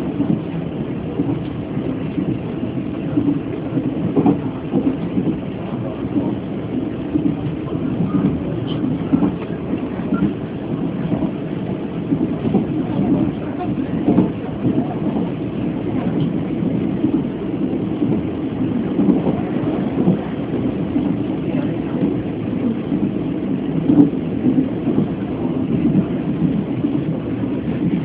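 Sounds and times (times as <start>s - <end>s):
train carriage rumbling on track: 0.0s - 28.0s.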